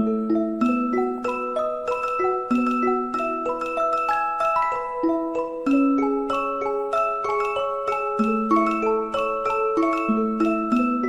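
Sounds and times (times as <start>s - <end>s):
bell-like melody over chords: 0.0s - 11.0s.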